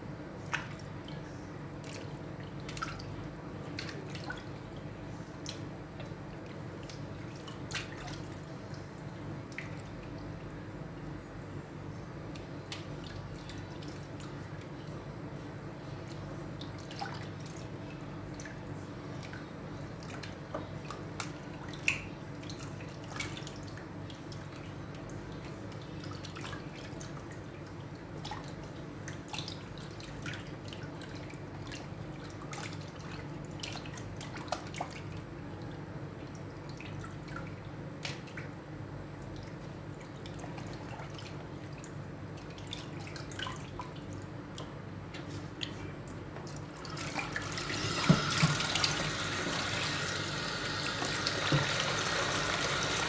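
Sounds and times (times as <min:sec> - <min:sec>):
water drips and splashes: 0:00.4 - 0:10.6, 0:15.8 - 0:53.0.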